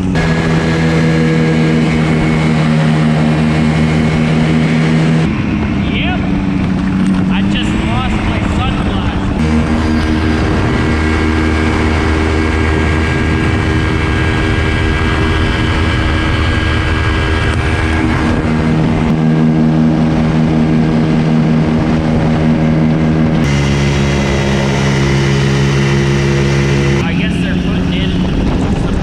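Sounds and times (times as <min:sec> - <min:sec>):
light airplane engine and propeller: 0:00.0 - 0:29.0.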